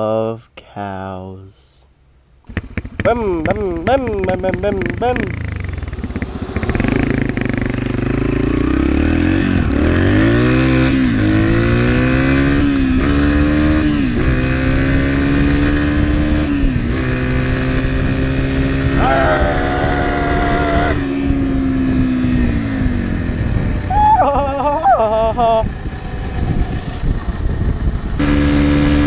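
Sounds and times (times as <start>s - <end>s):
dirt bike engine accelerating: 2.4s - 29.0s.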